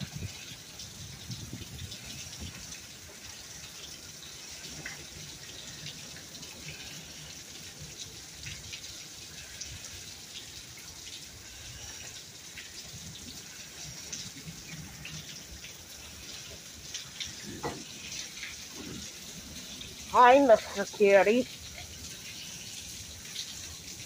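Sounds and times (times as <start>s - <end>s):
steady rain falling: 0.0s - 24.0s
water drips and splashes: 0.0s - 24.0s.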